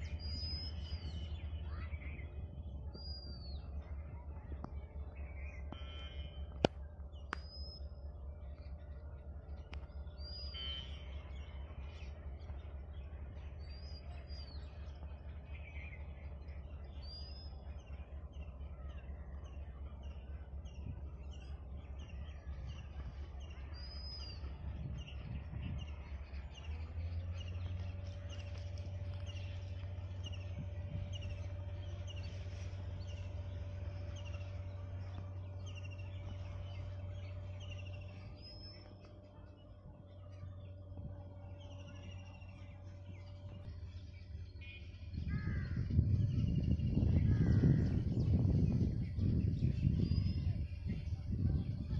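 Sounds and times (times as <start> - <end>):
birds chirping: 0.0 - 51.9
diesel locomotive rumble: 0.0 - 51.9
steady whine: 0.0 - 51.9.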